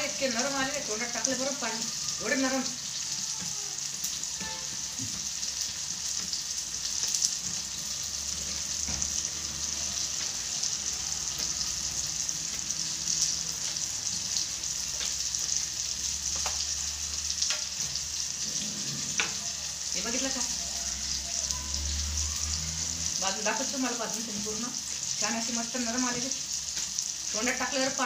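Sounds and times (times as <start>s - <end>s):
masala sizzling in oil: 0.0s - 28.0s
small crackles of frying: 0.0s - 28.0s.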